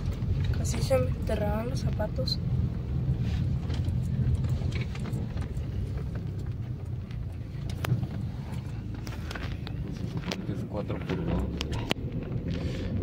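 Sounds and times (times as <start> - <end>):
car rumbling over dirt track: 0.0 - 13.0.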